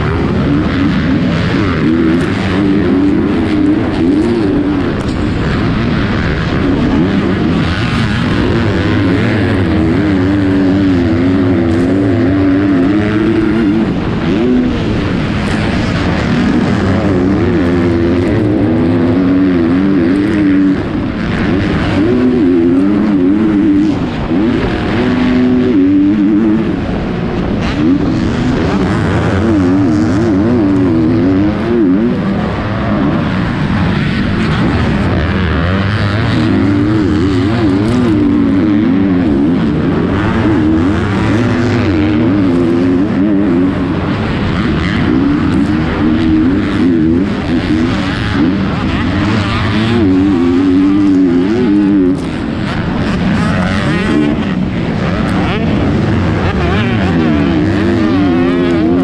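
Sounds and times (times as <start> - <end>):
motocross bike engine revving: 0.0 - 59.0
other race bikes: 0.0 - 59.0.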